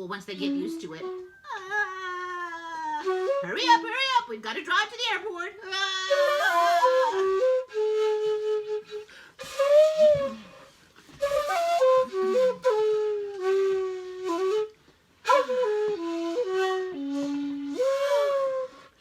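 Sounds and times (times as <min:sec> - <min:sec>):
solo flute melody: 0:00.3 - 0:04.5, 0:05.5 - 0:19.0.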